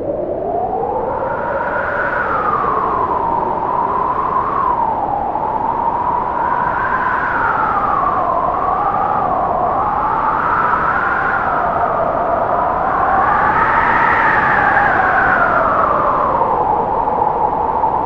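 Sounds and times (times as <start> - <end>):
strong wind whistling: 0.0 - 18.0.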